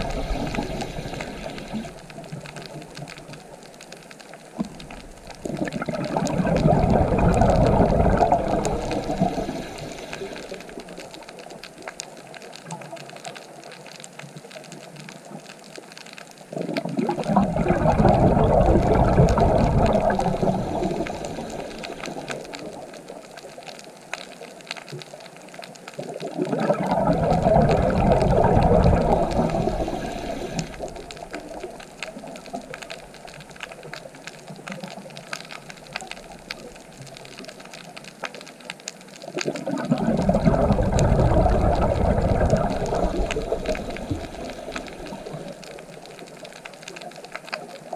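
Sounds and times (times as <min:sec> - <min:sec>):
steady low water rush: 0:00.0 - 0:12.3, 0:16.4 - 0:23.6, 0:26.0 - 0:47.9
surging water: 0:00.0 - 0:47.9.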